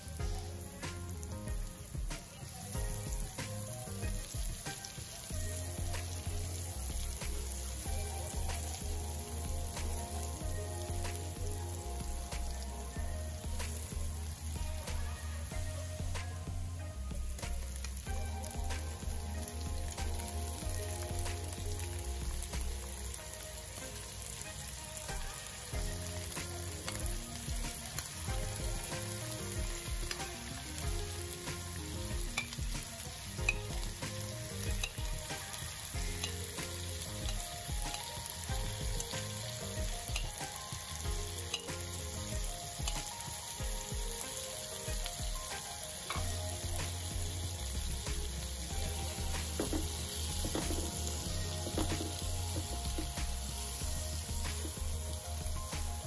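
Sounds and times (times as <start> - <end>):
background music: 0.0 - 56.0
prawns sizzling in a wok: 0.0 - 56.0.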